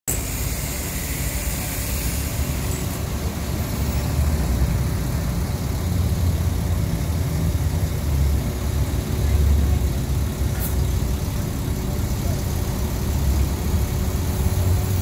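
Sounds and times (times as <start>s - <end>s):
truck engine idling: 0.1s - 15.0s.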